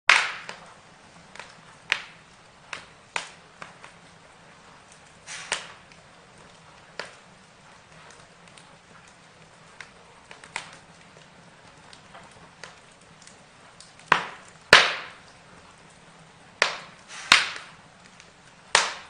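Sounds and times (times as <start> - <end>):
burning wood crackling and popping: 0.1 - 19.0.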